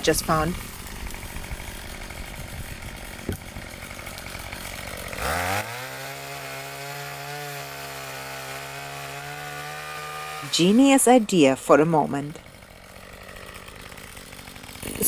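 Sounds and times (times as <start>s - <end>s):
pole saw motor running: 0.0s - 15.0s.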